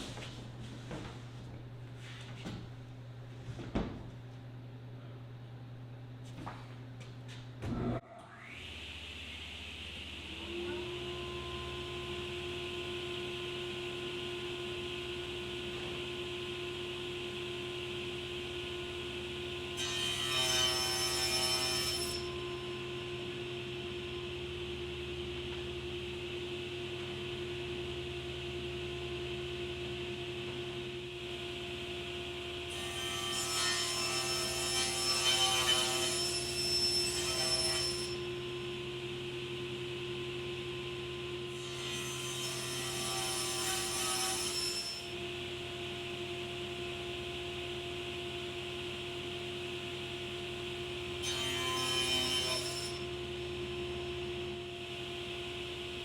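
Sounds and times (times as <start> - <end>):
shop hum: 0.0 - 56.0.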